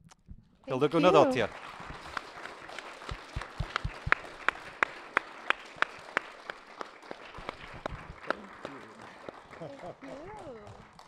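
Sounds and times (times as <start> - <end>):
fainter clapping: 1.0 - 11.0
sharp hand claps: 1.0 - 11.0.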